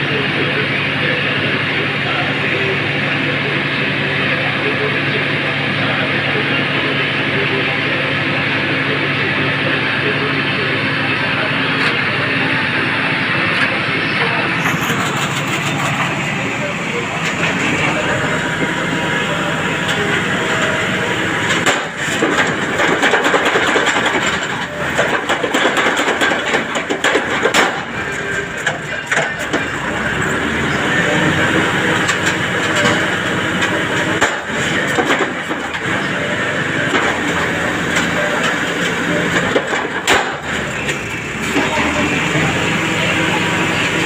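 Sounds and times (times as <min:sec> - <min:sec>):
drilling rig engine: 0:00.0 - 0:44.0.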